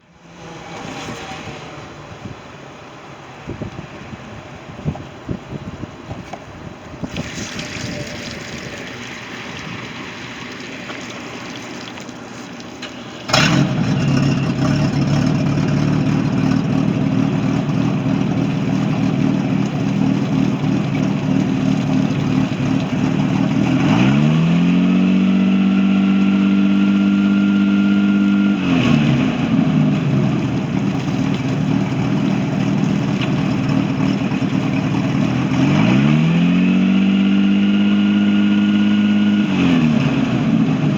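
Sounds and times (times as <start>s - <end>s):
boat engine starting and revving: 5.8s - 40.9s.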